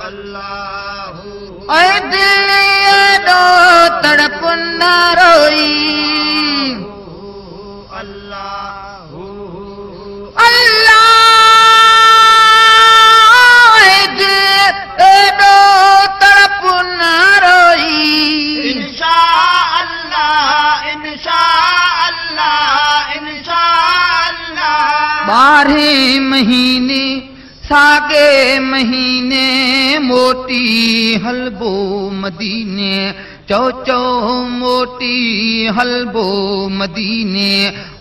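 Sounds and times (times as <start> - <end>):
person singing devotional song: 0.0 - 38.0.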